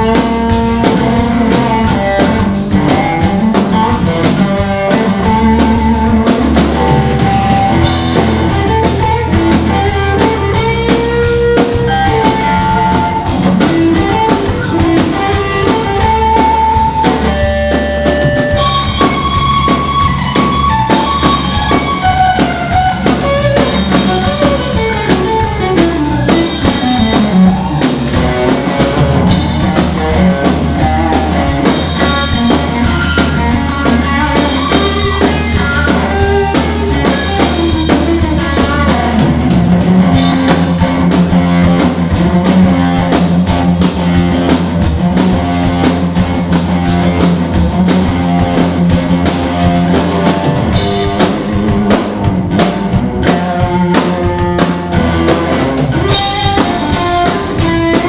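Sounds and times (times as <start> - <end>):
bass guitar: 0.0 - 58.0
drum beats: 0.0 - 58.0
electric guitar: 0.0 - 58.0.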